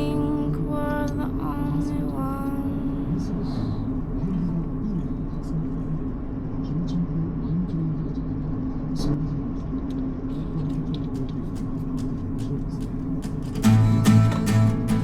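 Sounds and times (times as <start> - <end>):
vehicle engine and road drone: 0.0 - 15.0.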